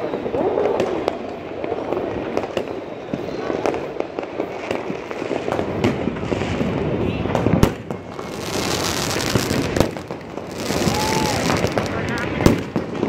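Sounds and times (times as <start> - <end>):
distant fireworks bangs and crackles: 0.0 - 13.0
loud firework bangs: 0.2 - 13.0.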